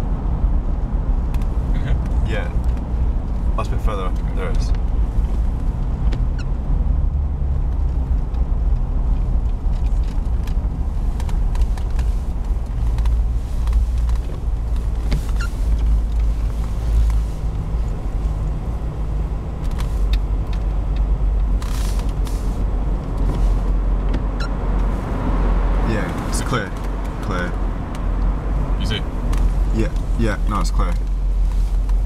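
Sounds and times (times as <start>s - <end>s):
engine and tyres rumbling: 0.0s - 32.0s.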